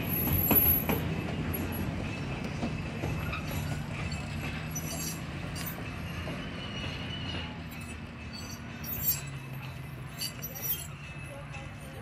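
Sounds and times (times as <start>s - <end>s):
locomotive low drone: 0.0s - 12.0s
wheels clicking on rails: 0.0s - 12.0s.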